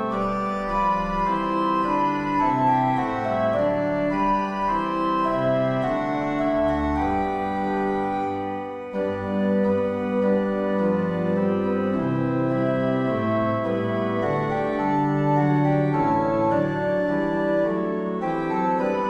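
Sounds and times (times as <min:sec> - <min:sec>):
organ playing slow chords: 0:00.0 - 0:19.0.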